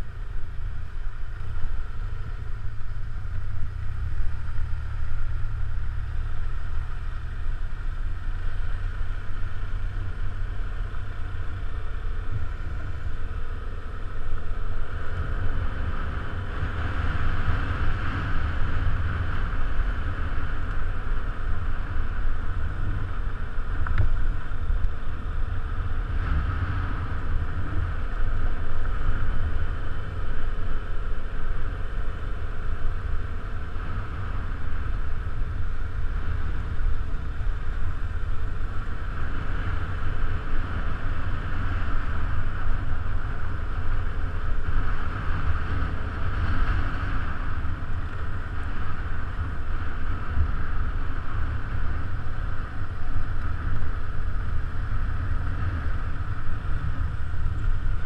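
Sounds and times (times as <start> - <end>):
motorcycle engine drone: 0.0 - 58.0
wind rumble on microphone: 0.0 - 58.0.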